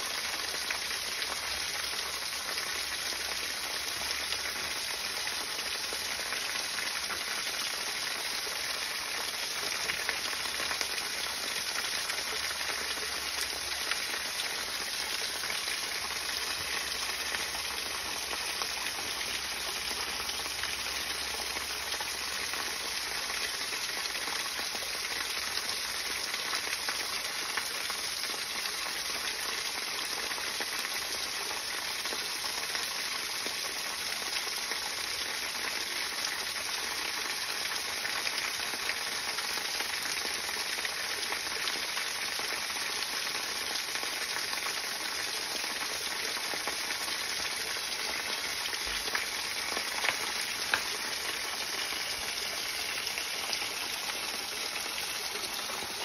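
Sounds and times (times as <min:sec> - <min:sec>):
waterfall splashing over rocks: 0:00.0 - 0:56.0.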